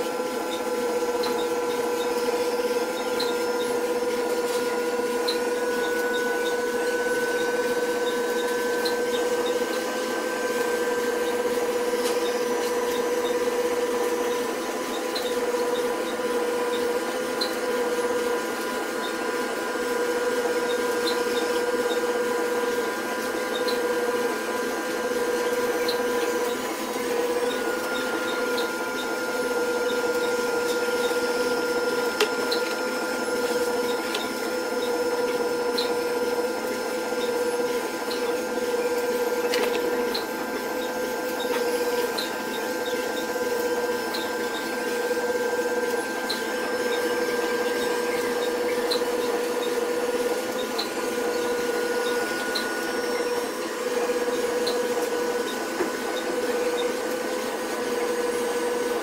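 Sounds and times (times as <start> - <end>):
small electric motor humming: 0.0 - 59.0.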